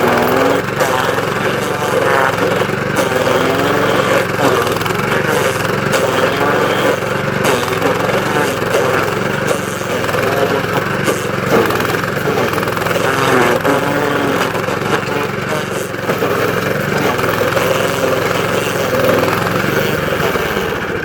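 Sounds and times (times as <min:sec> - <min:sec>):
cutter wheel grinding stump: 0:00.0 - 0:21.0
stump grinder engine running: 0:00.0 - 0:21.0.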